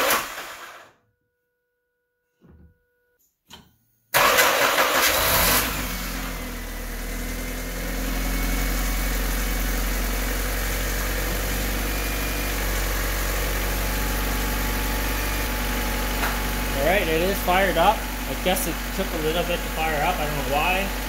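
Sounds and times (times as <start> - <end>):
car engine starting and idling: 0.0 - 0.9, 4.1 - 21.0.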